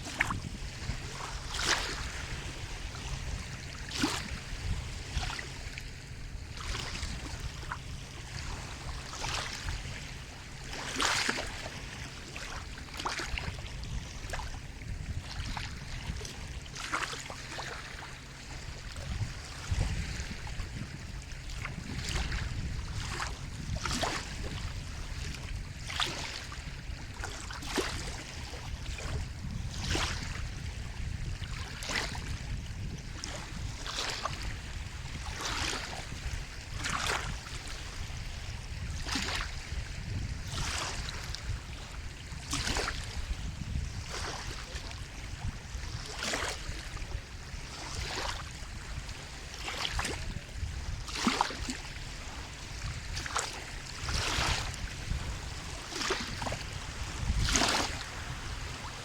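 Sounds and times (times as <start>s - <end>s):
low rumble of surf: 0.0s - 59.0s
sea water lapping and splashing: 0.0s - 59.0s
wind: 0.0s - 59.0s.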